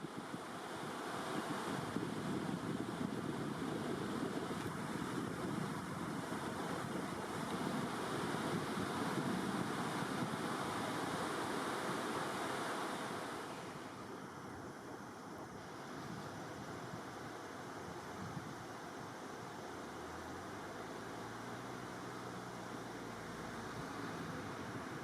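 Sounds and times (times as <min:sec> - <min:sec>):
water rushing over a weir: 0:00.0 - 0:25.0.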